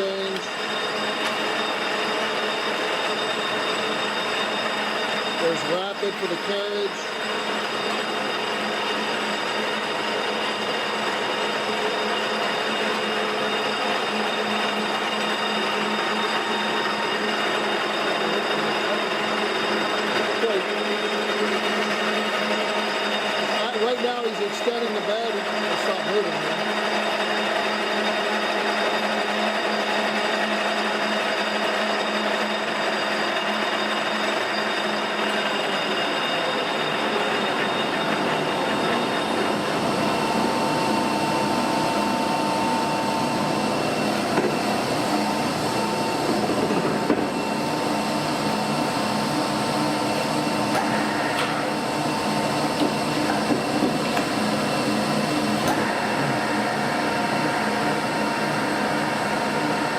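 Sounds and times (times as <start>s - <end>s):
lathe machine whine: 0.0s - 59.9s.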